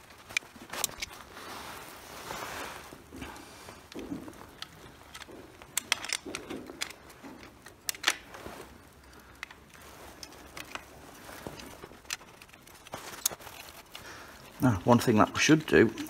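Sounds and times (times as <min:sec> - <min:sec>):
soft handling noise: 0:00.0 - 0:16.0.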